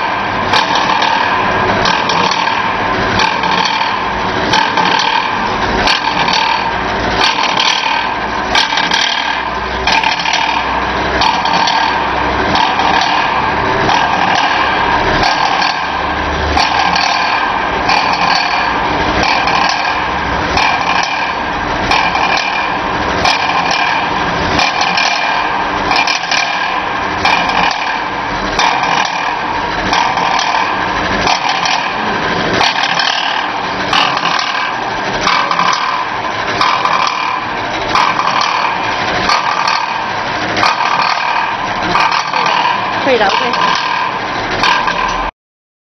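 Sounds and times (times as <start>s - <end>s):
machine stroke thumping: 0.0s - 45.3s.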